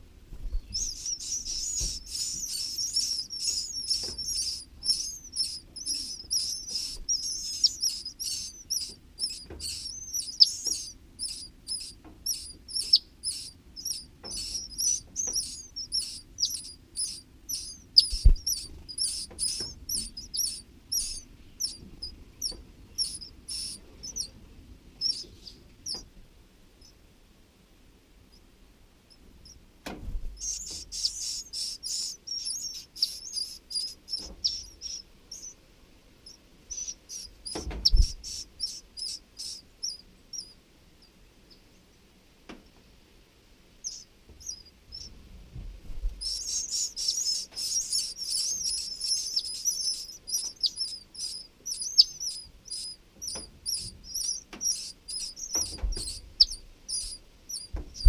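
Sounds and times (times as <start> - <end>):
baby birds chirping: 0.5 - 26.1, 29.1 - 29.6, 30.3 - 35.6, 36.2 - 41.6, 43.8 - 45.1, 46.0 - 58.0.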